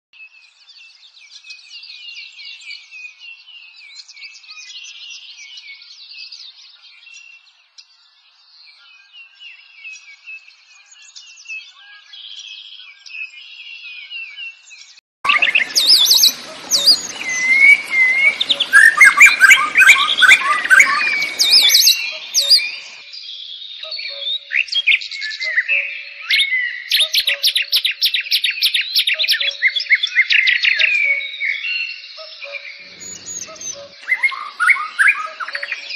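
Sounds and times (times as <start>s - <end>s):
birds chirping and trilling: 0.2s - 35.9s.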